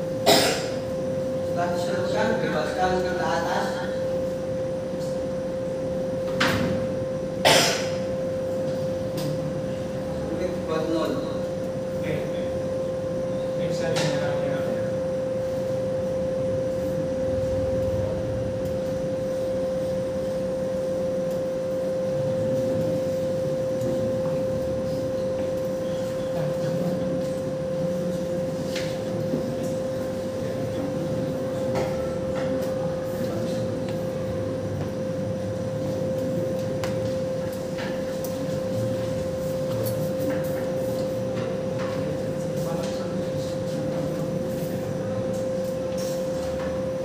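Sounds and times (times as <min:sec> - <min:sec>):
low room murmur: 0:00.0 - 0:47.0
steady hum: 0:00.0 - 0:47.0.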